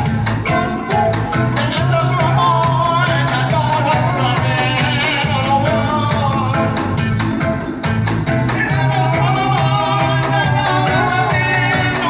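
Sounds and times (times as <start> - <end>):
man singing with vibrato: 0.0 - 7.6, 8.3 - 12.0
reggae band playing: 0.0 - 12.0.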